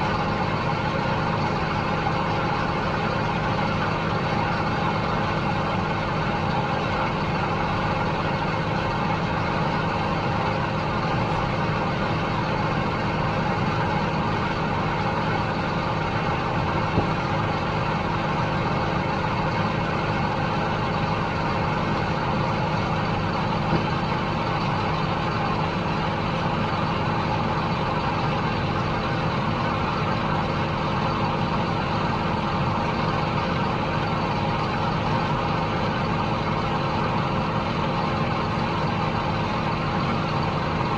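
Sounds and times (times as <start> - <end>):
diesel engine drone: 0.0 - 40.9.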